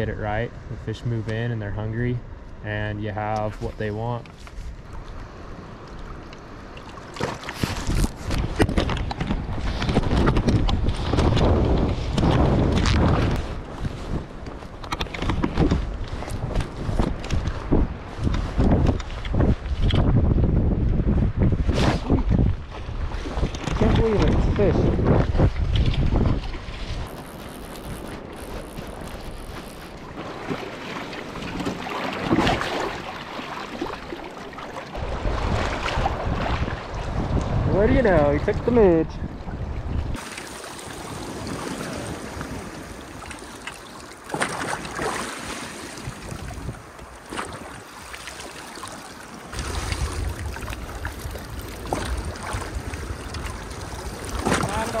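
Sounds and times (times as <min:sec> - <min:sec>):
wind buffeting microphone: 0:00.0 - 0:34.3, 0:34.9 - 0:43.5, 0:44.4 - 0:48.1, 0:49.4 - 0:55.0
lake water lapping: 0:03.6 - 0:18.0, 0:22.0 - 0:38.1, 0:39.6 - 0:55.0.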